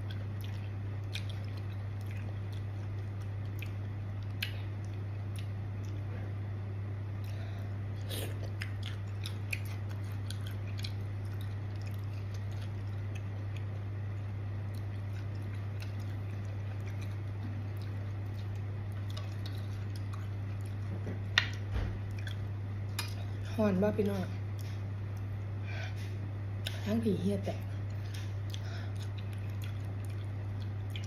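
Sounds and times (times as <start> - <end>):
person chewing crunchy food: 0.0 - 6.2, 7.2 - 23.4, 27.8 - 31.0
steady low hum: 0.0 - 31.0.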